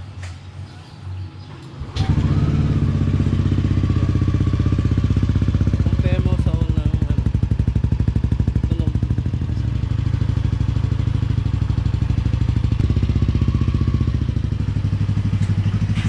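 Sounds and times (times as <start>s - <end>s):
scooter engine idling: 1.9s - 16.0s.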